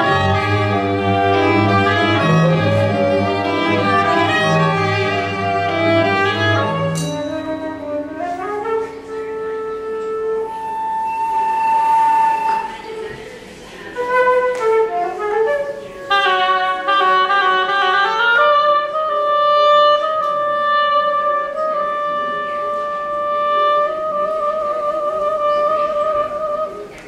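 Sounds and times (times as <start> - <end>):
symphony orchestra playing: 0.0 - 27.0.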